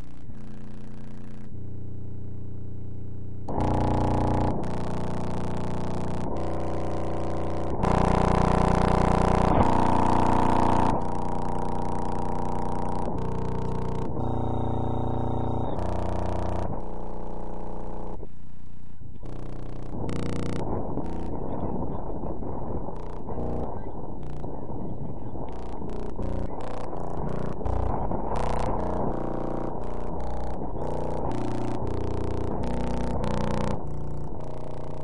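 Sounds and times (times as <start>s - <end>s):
distorted buzzing digital tones: 3.5s - 35.0s.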